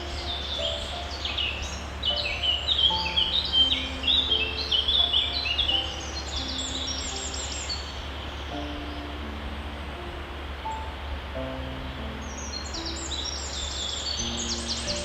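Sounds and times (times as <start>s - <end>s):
steady low hum: 0.0s - 13.2s
small birds chirping: 0.0s - 15.0s.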